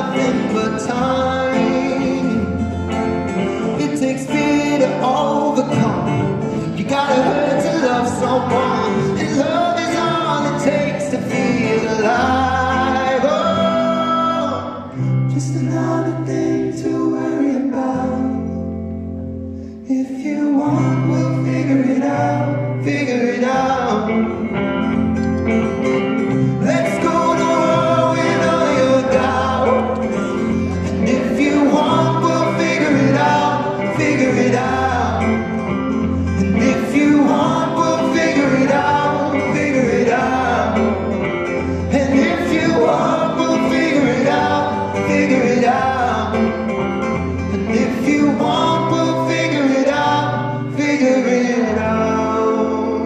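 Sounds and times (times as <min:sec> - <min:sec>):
person singing: 0:00.0 - 0:19.0, 0:19.7 - 0:53.0
guitars playing: 0:00.0 - 0:53.0.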